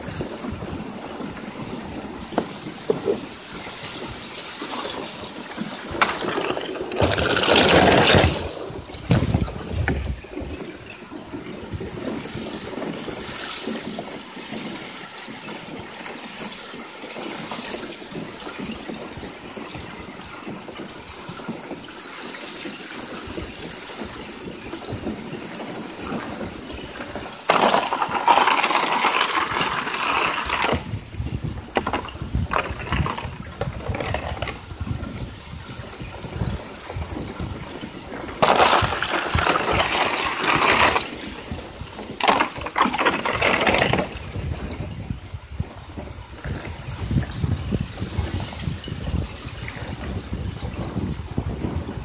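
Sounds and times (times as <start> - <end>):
water and ice washing against kayak: 0.0 - 52.0.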